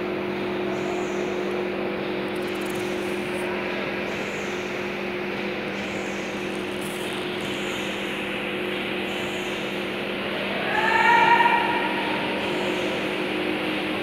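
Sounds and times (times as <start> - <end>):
weaving looms droning: 0.0 - 14.0.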